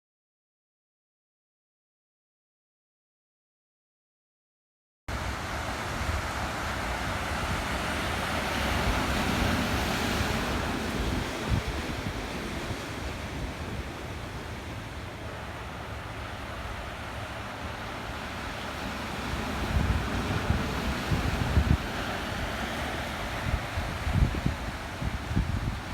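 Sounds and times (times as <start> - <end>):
waves surging and breaking: 5.1 - 25.9
wind rumbling on microphone: 5.1 - 25.9.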